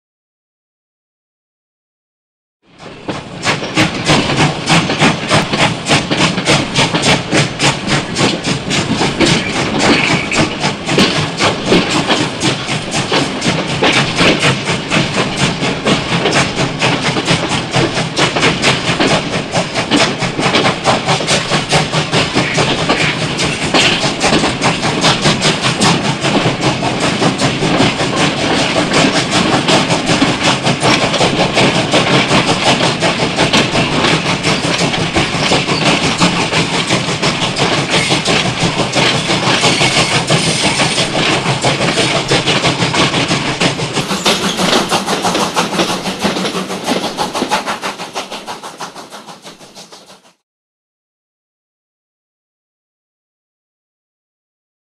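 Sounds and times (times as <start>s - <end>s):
wheel clatter on rails: 2.8s - 50.2s
steam locomotive exhaust chuffs: 2.8s - 50.4s.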